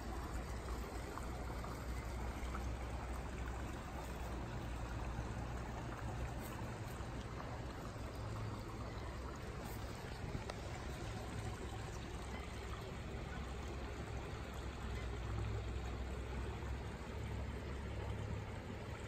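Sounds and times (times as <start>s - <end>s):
rocky creek trickling: 0.0s - 19.0s.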